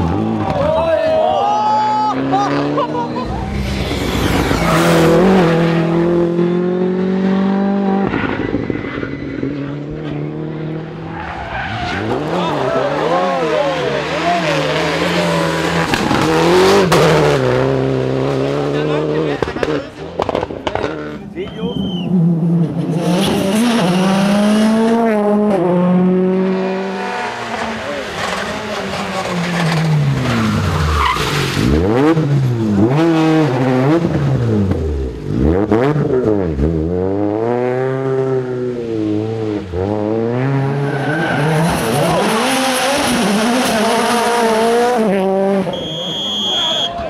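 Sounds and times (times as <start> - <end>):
rally cars revving past: 2.1 - 45.8.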